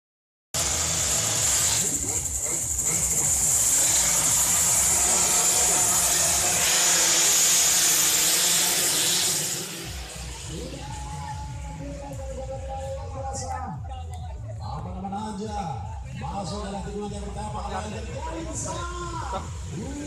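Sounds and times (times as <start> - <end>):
loud steady hiss: 0.6 - 13.5, 15.0 - 20.0
two-stroke motorcycles revving high: 0.6 - 13.6, 15.5 - 20.0.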